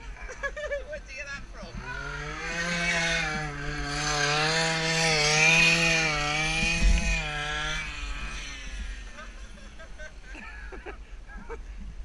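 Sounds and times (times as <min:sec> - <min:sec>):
go-kart engine at high revs: 0:00.0 - 0:11.5.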